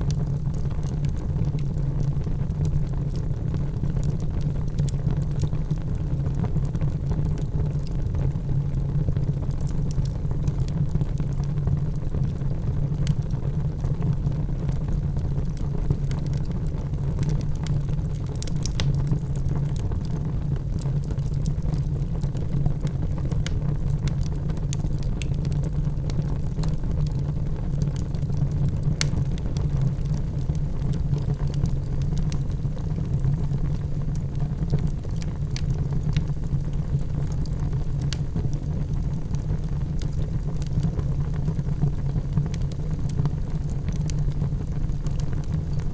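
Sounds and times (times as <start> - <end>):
fire crackling and popping: 0.0 - 45.9
fire flames rumbling: 0.0 - 45.9.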